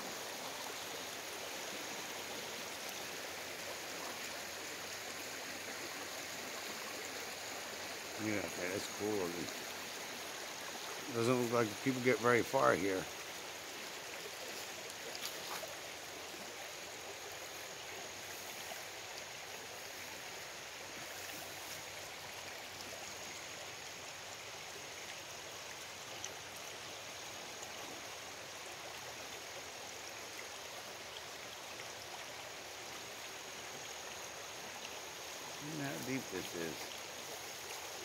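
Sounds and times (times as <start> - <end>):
creek flowing over stones: 0.0 - 38.0.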